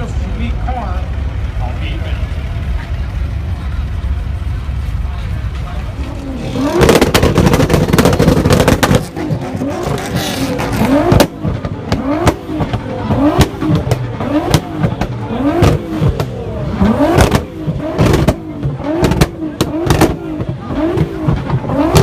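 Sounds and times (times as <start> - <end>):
car engine revving: 0.0 - 22.0
exhaust crack: 0.0 - 22.0.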